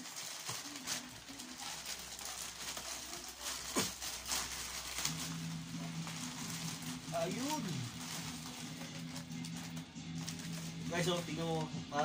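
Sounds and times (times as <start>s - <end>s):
plastic bag rustling and tearing: 0.0s - 11.7s.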